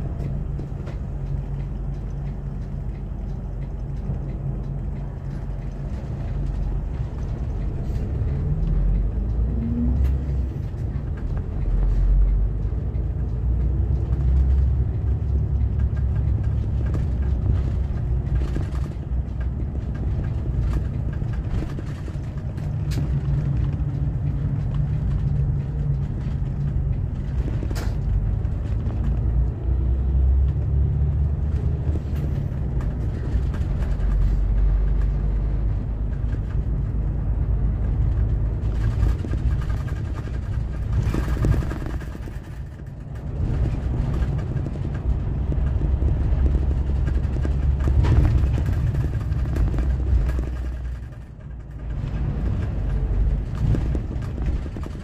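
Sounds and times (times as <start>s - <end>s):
bus engine and tyres rumbling: 0.0s - 55.0s.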